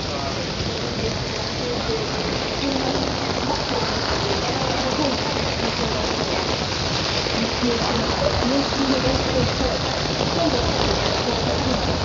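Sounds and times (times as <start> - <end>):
faint voices: 0.0 - 12.0
rain splashing on hard surfaces: 0.0 - 12.0.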